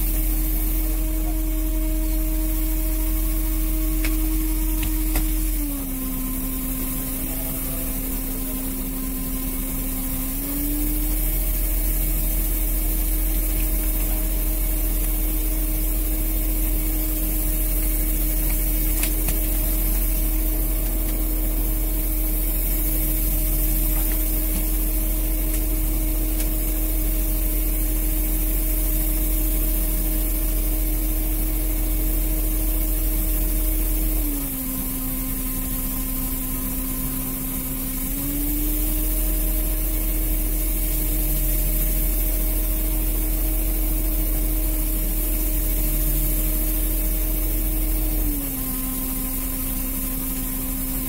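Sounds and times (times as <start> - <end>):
boat engine humming: 0.0 - 51.0.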